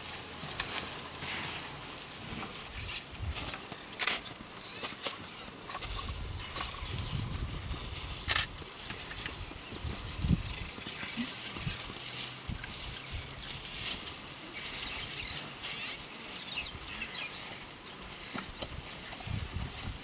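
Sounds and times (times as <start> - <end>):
rustling dry grass: 0.0 - 20.0.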